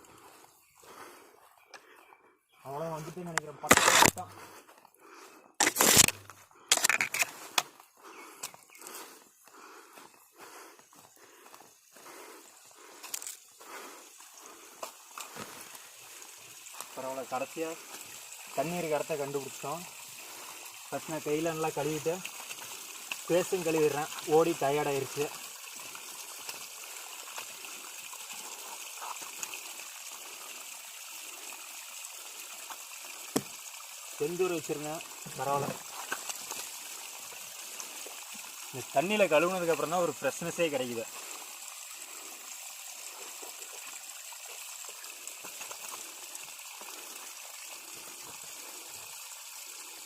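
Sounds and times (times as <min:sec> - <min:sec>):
water running: 0:08.8 - 0:50.0.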